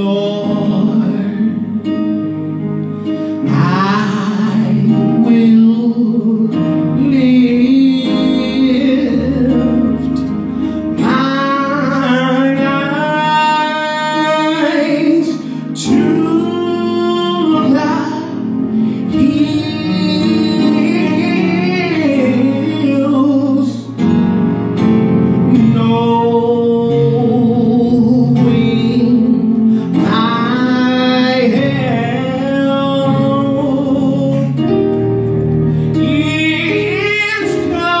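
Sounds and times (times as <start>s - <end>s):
man singing gospel song: 0.0s - 2.0s, 3.4s - 24.2s, 25.4s - 35.0s, 35.8s - 38.0s
electronic keyboard chords: 0.0s - 38.0s.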